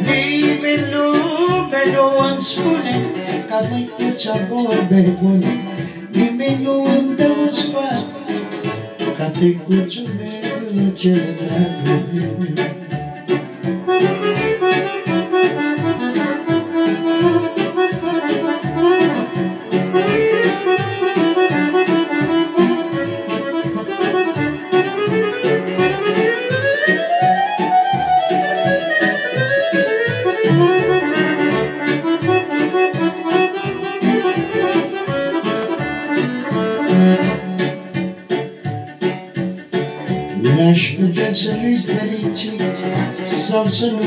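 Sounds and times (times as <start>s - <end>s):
electronic keyboard melody: 0.0s - 44.0s.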